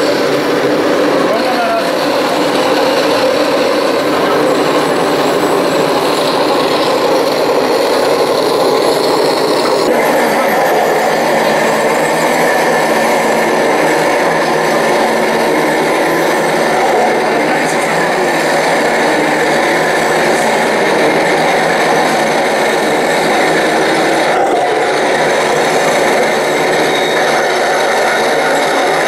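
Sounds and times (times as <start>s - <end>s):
toy tank motors whirring: 0.0s - 29.0s.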